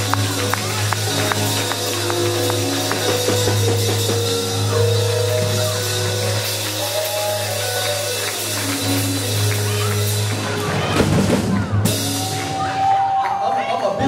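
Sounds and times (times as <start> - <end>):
held keyboard chords: 0.0 - 12.8
drum kit hits: 0.0 - 13.1.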